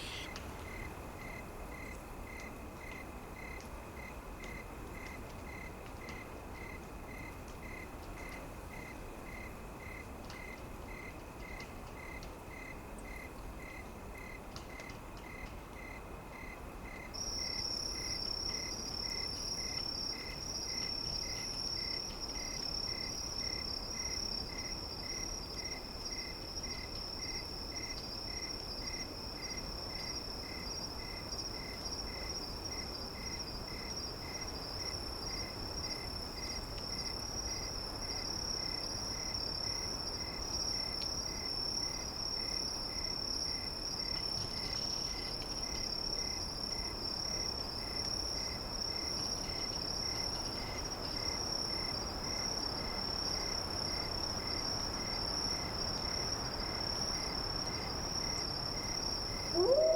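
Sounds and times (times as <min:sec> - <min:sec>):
insects chirping: 0:00.0 - 0:04.1, 0:08.7 - 0:59.9
faint steady hiss: 0:00.0 - 0:59.9.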